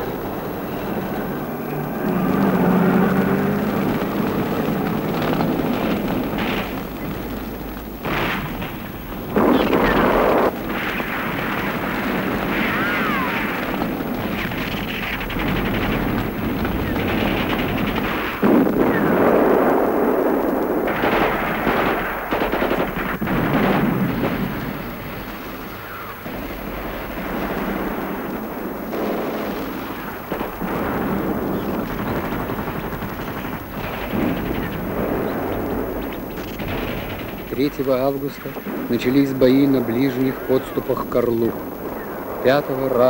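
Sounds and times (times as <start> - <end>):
rapid machine-gun fire: 2.9 - 43.0.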